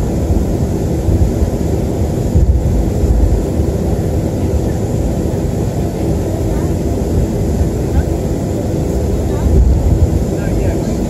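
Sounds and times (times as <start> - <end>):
aircraft cabin rumble: 0.0 - 11.0
faint jet engine hum: 0.0 - 11.0.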